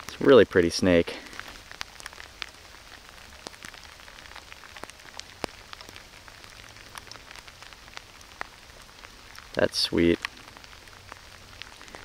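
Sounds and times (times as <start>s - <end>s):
rain hiss: 0.0s - 12.0s
raindrops ticking close by: 0.0s - 12.0s.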